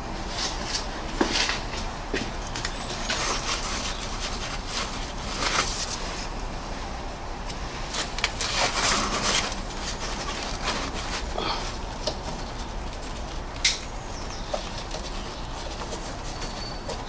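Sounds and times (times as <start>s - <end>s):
hands rustling and scraping wiring: 0.0s - 17.0s.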